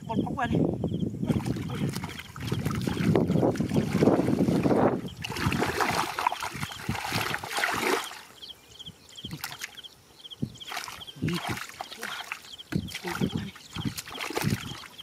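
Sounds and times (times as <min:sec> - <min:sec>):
muddy water sloshing and splashing: 0:01.2 - 0:08.4, 0:09.2 - 0:09.9, 0:10.5 - 0:15.0.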